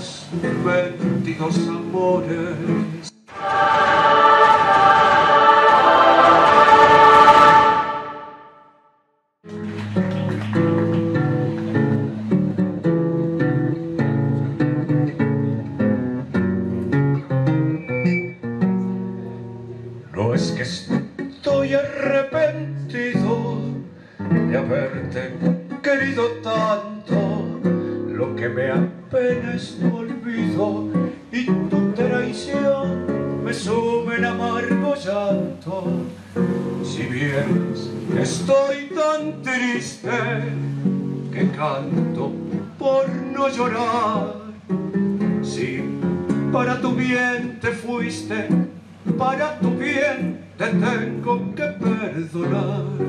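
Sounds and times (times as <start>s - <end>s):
acoustic guitar tango: 0.0s - 7.9s, 9.5s - 53.0s.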